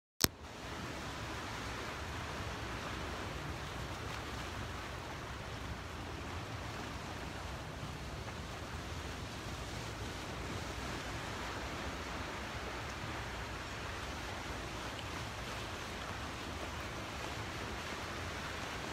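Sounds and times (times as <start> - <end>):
water at rocky seashore: 0.2 - 18.9
wind: 0.2 - 18.9.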